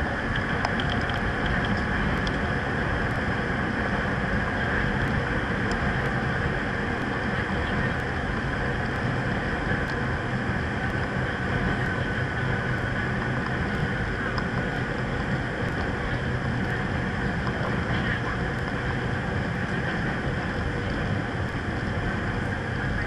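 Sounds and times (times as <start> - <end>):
faint high whine: 0.0 - 23.0.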